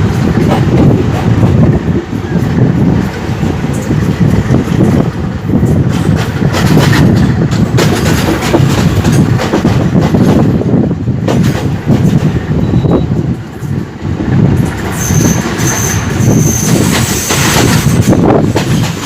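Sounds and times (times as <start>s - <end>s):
train wheels clacking over rail joints: 0.0s - 12.6s, 13.2s - 19.0s
train rumbling on rails: 0.0s - 19.0s.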